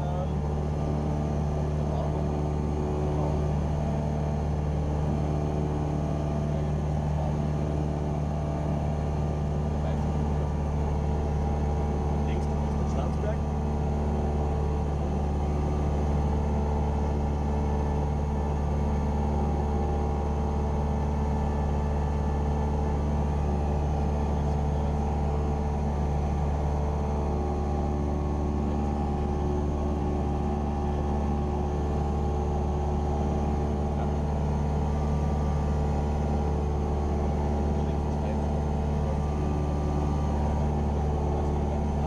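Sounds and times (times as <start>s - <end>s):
aircraft engine droning in cockpit: 0.0s - 42.0s.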